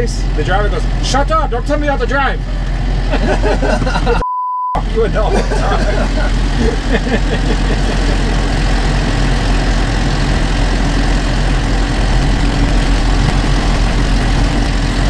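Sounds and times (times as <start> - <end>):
tractor engine running: 0.0 - 4.2, 4.8 - 15.0.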